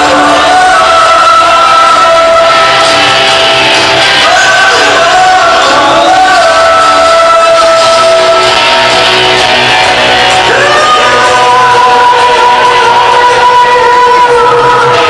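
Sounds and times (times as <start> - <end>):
live rock band with electric guitar: 0.0 - 15.0
man singing long notes: 0.0 - 15.0.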